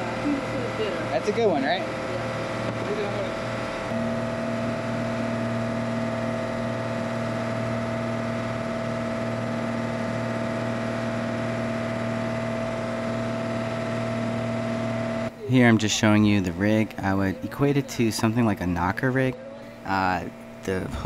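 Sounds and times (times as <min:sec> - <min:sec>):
boat machinery humming: 0:00.0 - 0:21.0.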